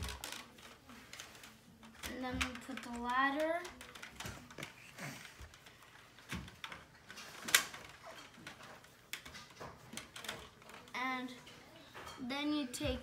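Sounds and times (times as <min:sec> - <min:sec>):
plastic toy parts clicking: 0:00.0 - 0:11.0.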